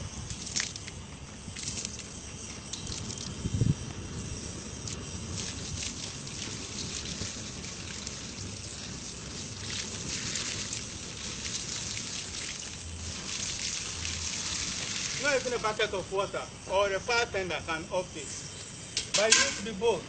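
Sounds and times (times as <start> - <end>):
gas burning with hissing rush: 0.0 - 20.0.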